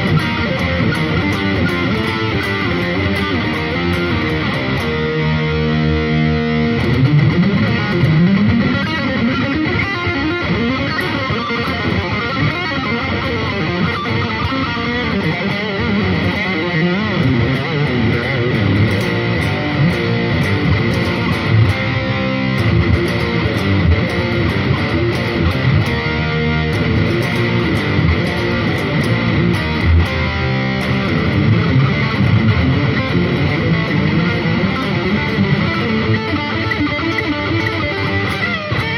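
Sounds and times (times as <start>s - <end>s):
electric guitar riff: 0.0s - 38.9s.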